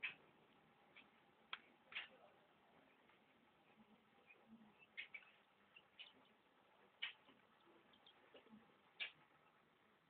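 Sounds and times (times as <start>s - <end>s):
quail chicks peeping: 0.0s - 10.0s.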